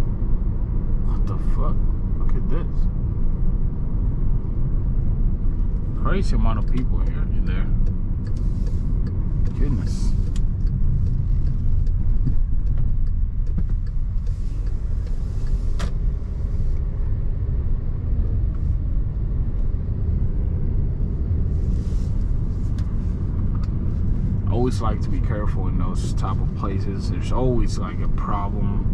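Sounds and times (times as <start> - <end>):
car engine and road rumble: 0.0 - 28.9.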